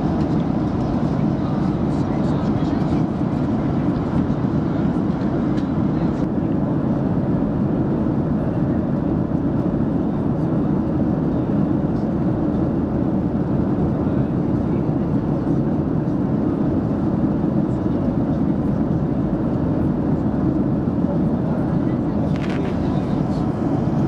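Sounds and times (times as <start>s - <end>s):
airplane cabin engine rush: 0.0s - 24.0s.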